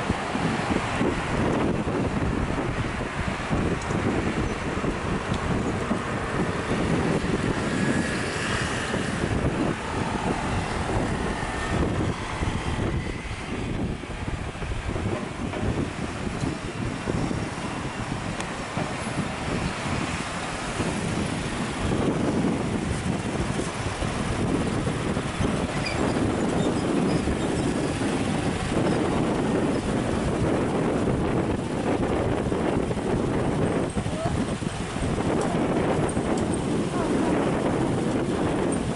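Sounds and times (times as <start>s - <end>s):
low traffic rumble: 0.0s - 38.9s
vehicle noise: 0.0s - 38.9s
wind buffeting microphone: 0.0s - 38.9s.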